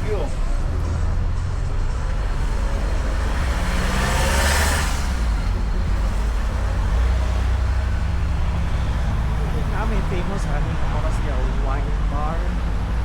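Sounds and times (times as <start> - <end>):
traffic engine rumble: 0.0 - 13.0
vehicle passing: 0.0 - 13.0.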